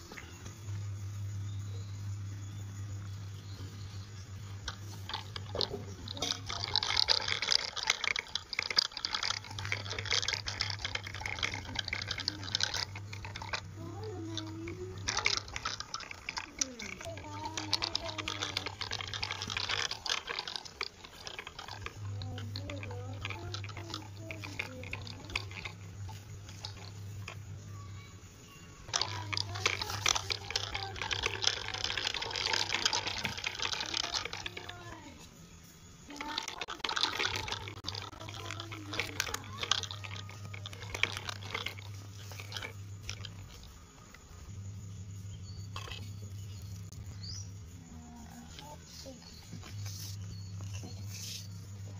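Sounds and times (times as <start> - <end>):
toy tyres crackling over pebbles: 0.0 - 51.9.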